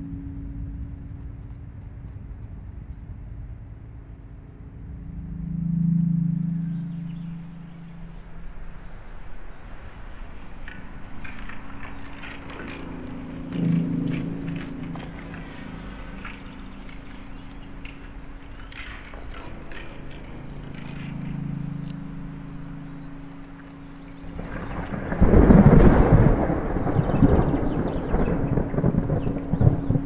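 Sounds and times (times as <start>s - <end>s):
low steady drone: 0.0s - 30.0s
thunder-like rumble: 0.0s - 30.0s.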